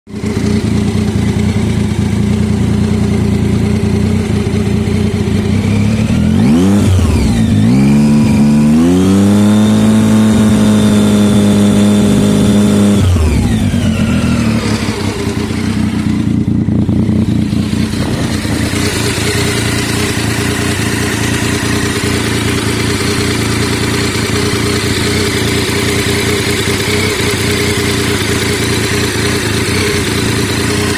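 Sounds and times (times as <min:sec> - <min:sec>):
motorcycle engine idling rough: 0:00.1 - 0:30.9.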